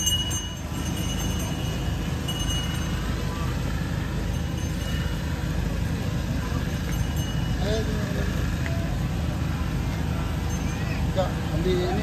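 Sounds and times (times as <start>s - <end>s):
thin high tone: 0.0s - 8.5s, 10.2s - 11.4s
faint crowd chatter: 0.1s - 12.0s.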